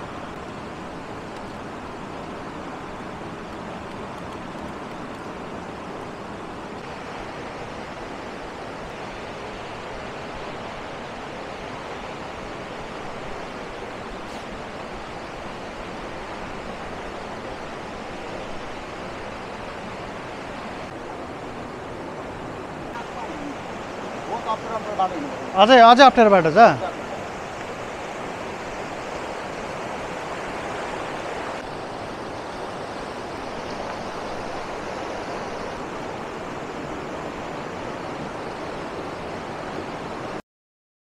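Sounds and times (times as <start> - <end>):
river rushing over boulders: 0.0 - 40.4.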